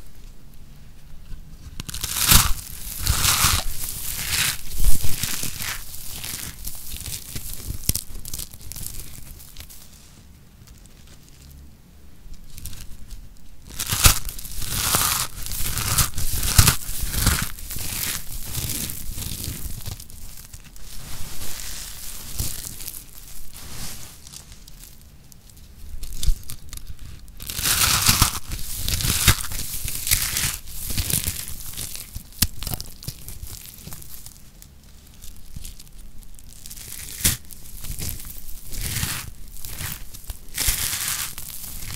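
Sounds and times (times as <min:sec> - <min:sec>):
soap curls crunching and crackling: 0:01.2 - 0:41.9.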